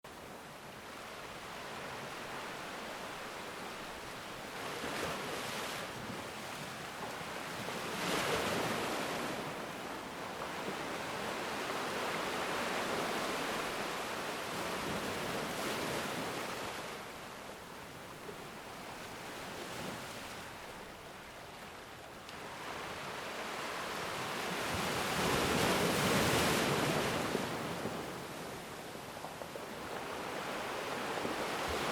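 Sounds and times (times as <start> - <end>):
ocean waves breaking: 0.2 - 31.9.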